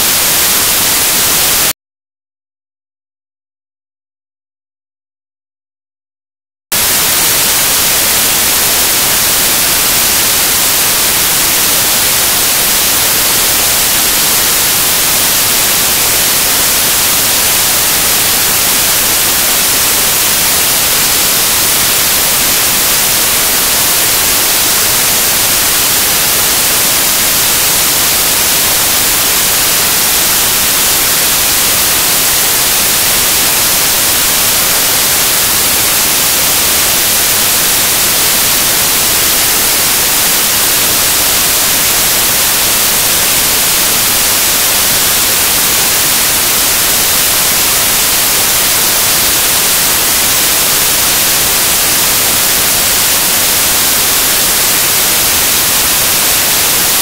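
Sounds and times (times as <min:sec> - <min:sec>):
loud static hiss: 0:00.0 - 0:01.8, 0:06.7 - 0:57.0.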